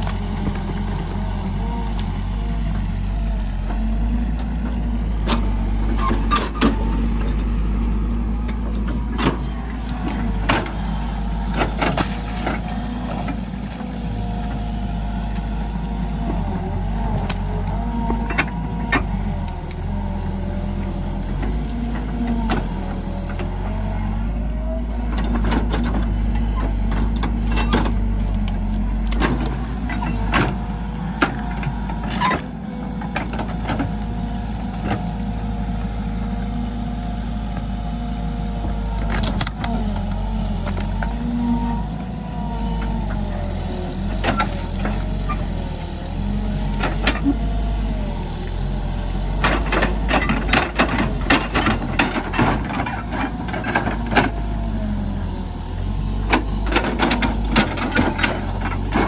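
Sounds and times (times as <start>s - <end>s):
diesel engine under load: 0.0s - 59.0s
hydraulics whining: 0.0s - 59.0s.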